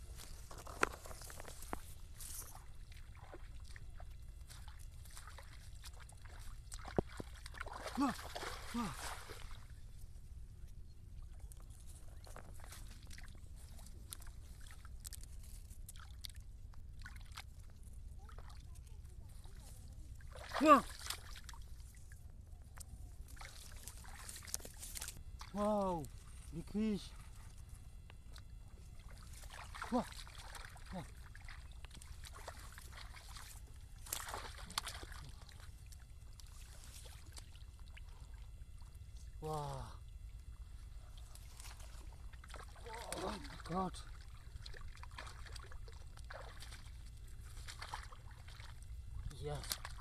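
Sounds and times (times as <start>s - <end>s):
splashes and drips in muddy water: 0.2s - 10.0s, 11.2s - 26.5s, 27.5s - 50.0s.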